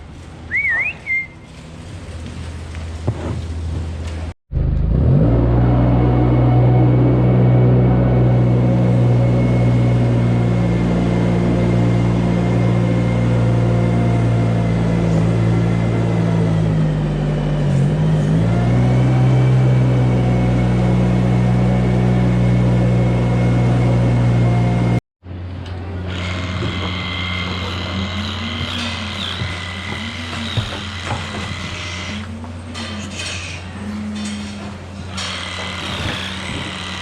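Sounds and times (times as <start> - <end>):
engine running under load: 0.0 - 37.0.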